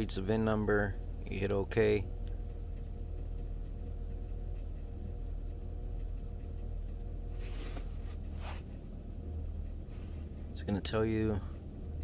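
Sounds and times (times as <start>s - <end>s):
faint constant tone: 0.0s - 12.0s
van engine idling: 0.0s - 12.0s.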